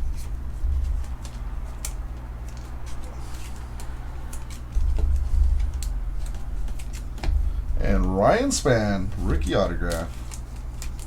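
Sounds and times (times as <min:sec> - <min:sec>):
cards and wrappers rustling: 0:00.0 - 0:11.0
steady low hum: 0:00.0 - 0:11.0.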